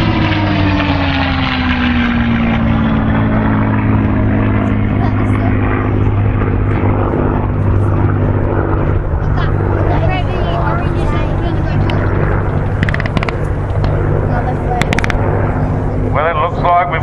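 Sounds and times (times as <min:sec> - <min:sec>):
low engine rumble: 0:00.0 - 0:17.0
propeller fighter plane passing low: 0:00.0 - 0:17.0.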